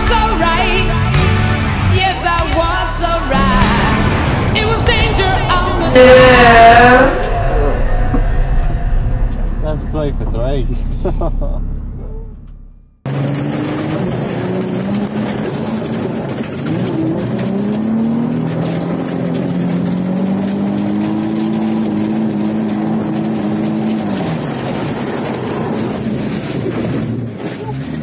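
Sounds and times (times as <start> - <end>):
car engine revving high: 3.3 - 25.8.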